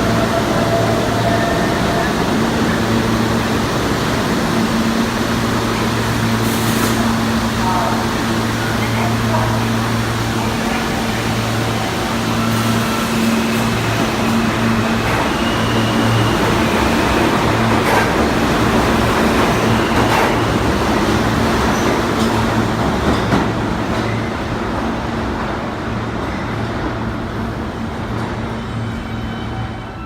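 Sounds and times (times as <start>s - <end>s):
rail clacks: 0.0s - 27.0s
subway train rumbling: 0.0s - 30.0s.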